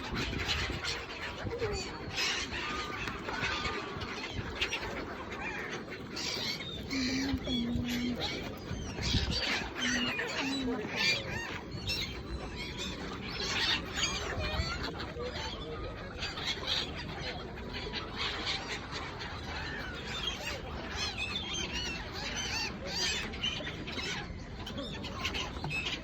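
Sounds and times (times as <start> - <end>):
gulls squawking: 0.0 - 26.0.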